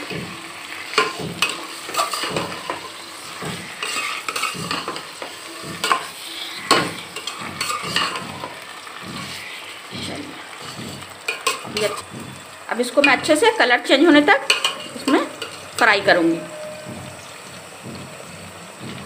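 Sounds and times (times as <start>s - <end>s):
metal spoon scraping and knocking pot: 0.0s - 12.2s, 14.3s - 19.0s
chicken sizzling in oil: 0.0s - 19.0s.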